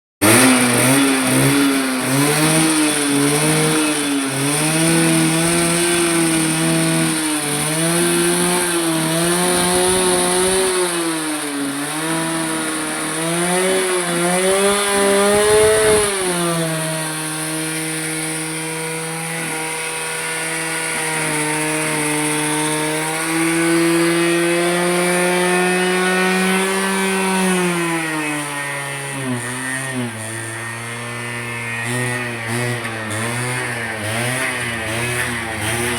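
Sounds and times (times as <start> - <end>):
two-stroke motorcycle engine revving: 0.2 - 35.9.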